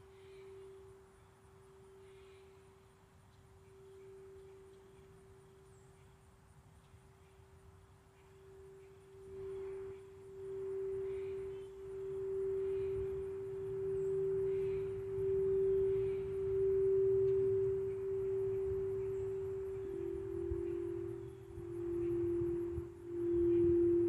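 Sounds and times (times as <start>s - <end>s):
singing bowl tone: 0.0s - 6.3s, 8.1s - 24.0s.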